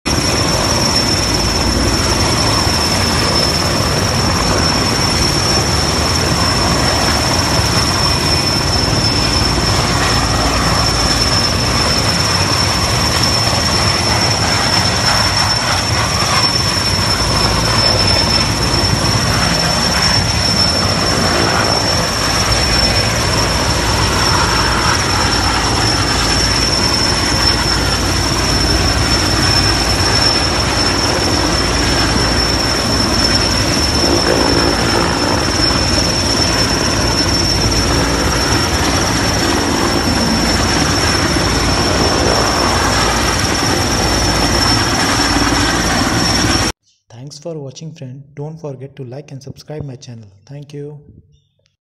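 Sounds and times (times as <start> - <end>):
helicopter hovering: 0.1 - 46.7.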